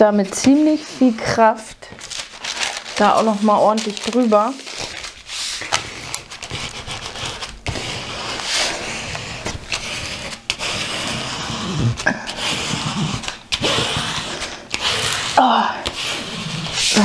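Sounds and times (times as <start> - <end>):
scraper scraping over paper: 0.0 - 17.0
paper crinkling: 1.8 - 17.0.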